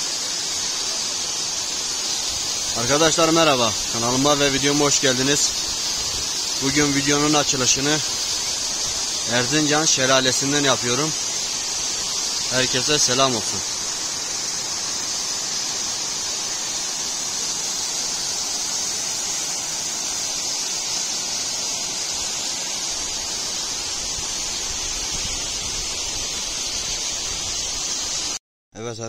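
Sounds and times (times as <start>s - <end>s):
waterfall rushing and splashing: 0.0s - 28.4s.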